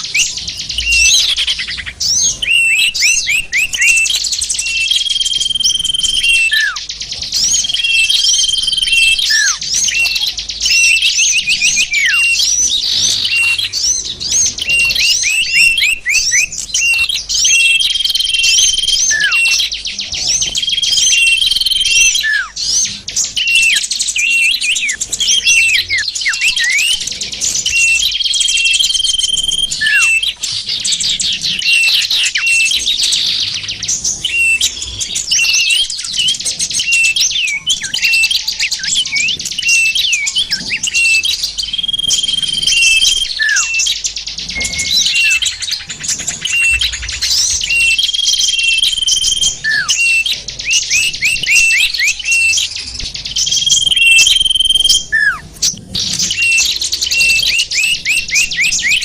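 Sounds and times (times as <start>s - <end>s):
held bird whistle: 0.0s - 59.0s
songbirds chirping and trilling: 0.0s - 59.0s.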